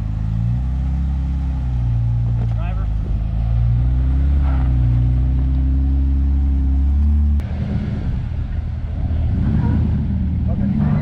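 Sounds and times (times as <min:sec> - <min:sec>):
car engine running at low revs: 0:00.0 - 0:11.0
rough off-road vehicle engine rumble: 0:00.0 - 0:11.0.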